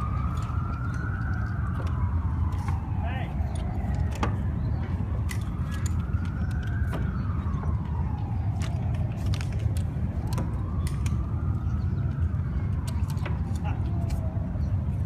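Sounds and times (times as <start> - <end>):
siren wailing: 0.0 - 15.0.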